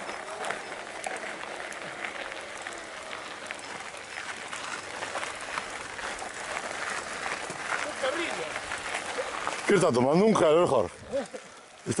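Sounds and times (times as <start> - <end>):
bike tyres crackling on stones: 0.0 - 12.0.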